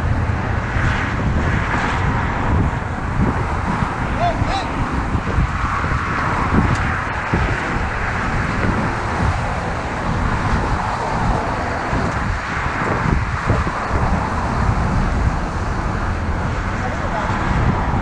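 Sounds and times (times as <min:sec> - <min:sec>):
highway traffic rushing: 0:00.0 - 0:18.0
wind buffeting microphone: 0:00.0 - 0:18.0.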